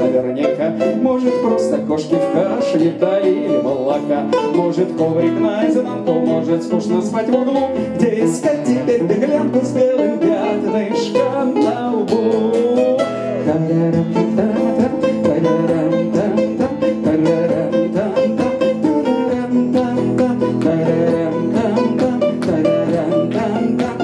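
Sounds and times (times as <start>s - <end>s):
acoustic guitar: 0.0s - 24.0s
electric guitar: 0.0s - 24.0s.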